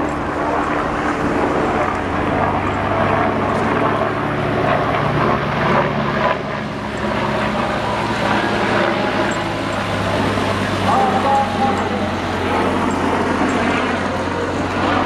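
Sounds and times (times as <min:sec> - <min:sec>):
bus engine humming: 0:00.0 - 0:15.0.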